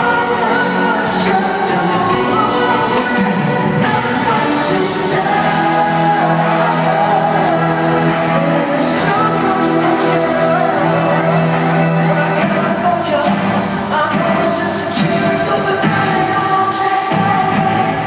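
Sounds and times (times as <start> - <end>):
live pop band playing: 0.0 - 18.0
man singing: 0.0 - 18.0.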